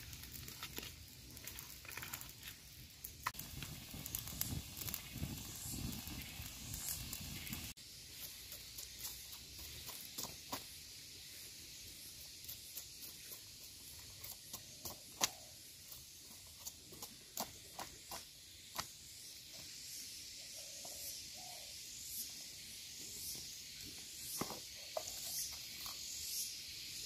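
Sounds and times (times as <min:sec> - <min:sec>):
steady high hiss: 0:00.0 - 0:27.0.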